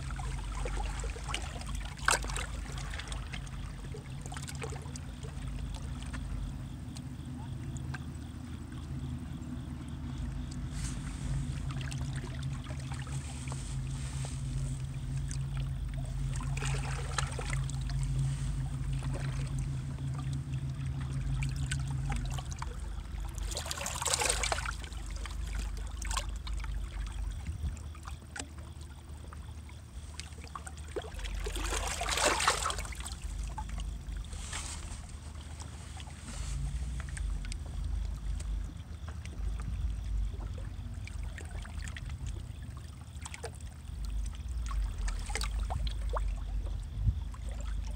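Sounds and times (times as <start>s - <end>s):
low steady hum: 0.0s - 47.9s
low steady rumble: 0.0s - 47.9s
water splashes: 0.0s - 47.9s.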